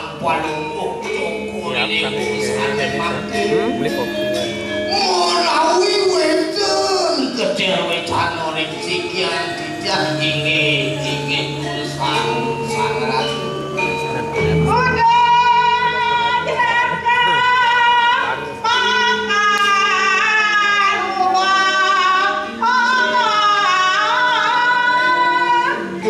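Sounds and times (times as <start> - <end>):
high solo voice singing: 4.8 - 26.0.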